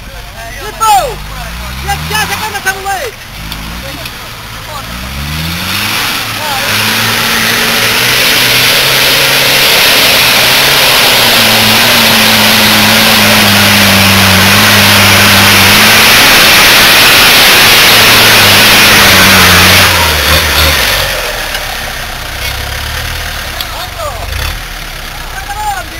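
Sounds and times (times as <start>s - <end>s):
off-road vehicle engine revving: 0.0s - 25.9s.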